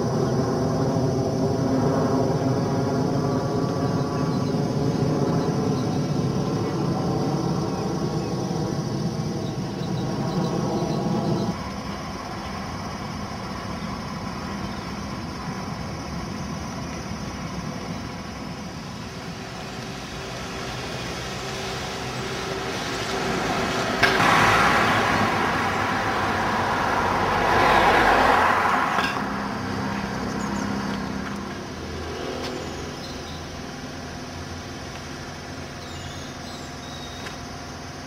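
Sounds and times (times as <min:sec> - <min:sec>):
steady engine hum: 0:00.0 - 0:38.0
vehicles passing close by: 0:00.0 - 0:38.0.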